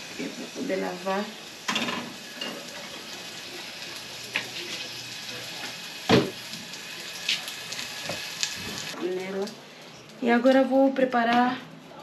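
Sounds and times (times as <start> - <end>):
pans sizzling on stove: 0.0 - 11.5.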